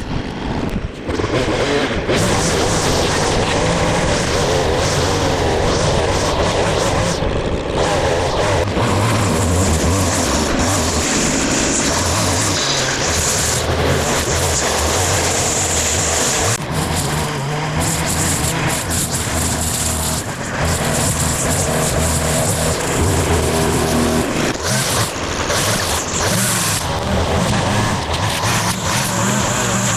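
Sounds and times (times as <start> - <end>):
petrol engine running: 0.0 - 29.9.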